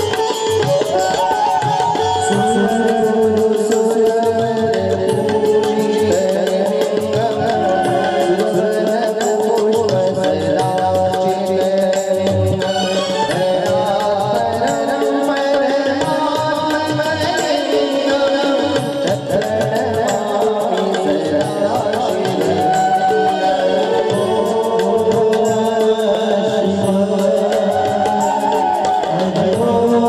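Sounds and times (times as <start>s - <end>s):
held instrumental notes: 0.0s - 30.0s
man singing over loudspeaker: 0.0s - 30.0s
tabla playing: 0.0s - 30.0s.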